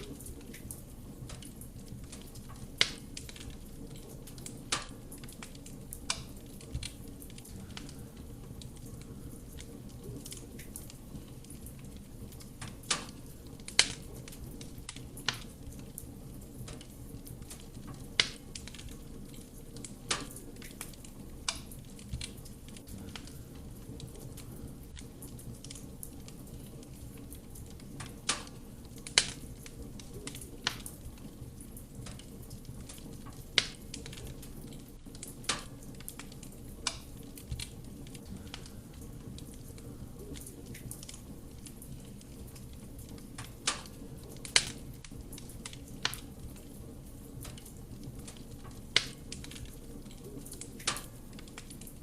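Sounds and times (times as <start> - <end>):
burning wood crackling and popping: 0.0 - 52.0
low rush of flame: 0.0 - 52.0.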